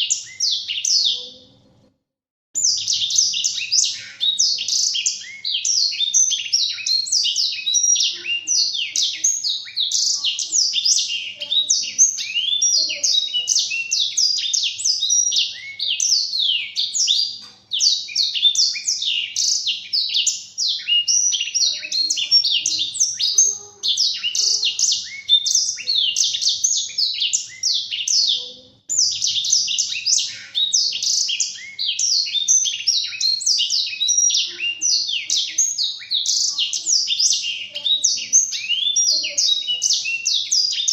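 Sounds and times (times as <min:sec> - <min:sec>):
canary singing fast twittering song: 0:00.0 - 0:01.7, 0:02.6 - 0:40.9.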